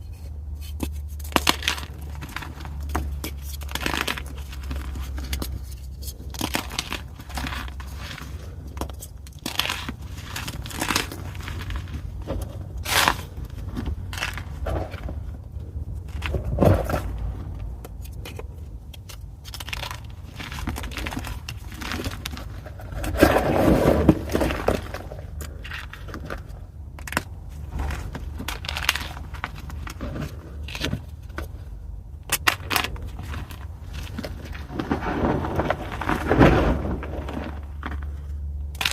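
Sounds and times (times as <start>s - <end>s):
chalk being crushed by hand: 0.0s - 38.9s.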